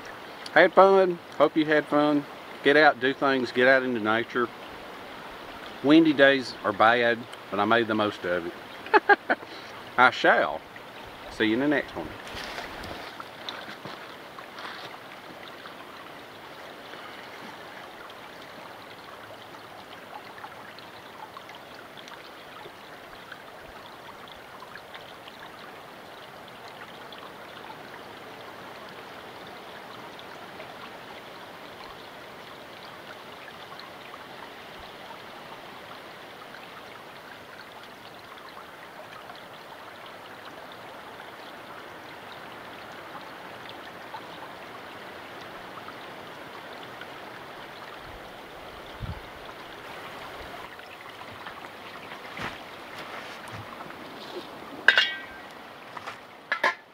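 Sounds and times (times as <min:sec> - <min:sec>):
creek water trickling: 0:00.0 - 0:56.9.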